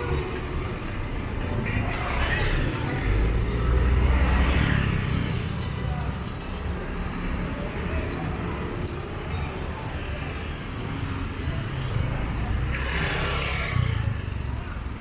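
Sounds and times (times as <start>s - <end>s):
people's voices: 0.0s - 15.0s
street traffic: 0.0s - 15.0s.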